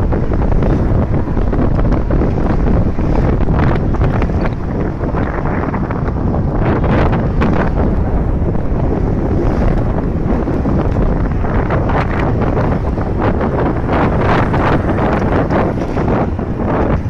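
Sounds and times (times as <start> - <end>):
road and vehicle noise: 0.0 - 17.0
wind buffeting microphone: 0.0 - 17.0.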